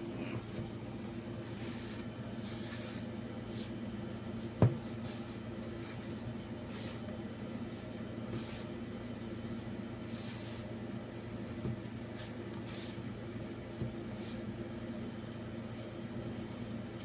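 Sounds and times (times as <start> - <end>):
faint steady hum: 0.0 - 17.0
hand squishing crumbly filling: 0.9 - 17.0.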